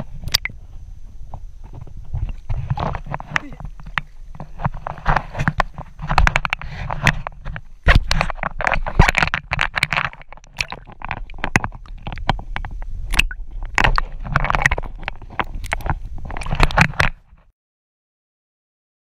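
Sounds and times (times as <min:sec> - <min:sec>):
water sloshing and splashing: 0:01.3 - 0:17.4.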